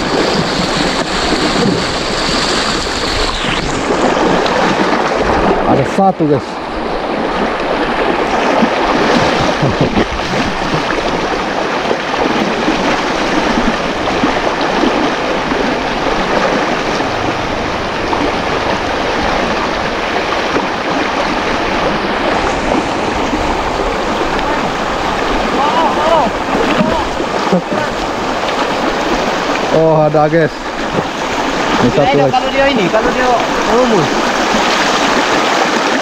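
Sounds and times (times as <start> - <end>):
river rapids rushing: 0.0 - 36.0.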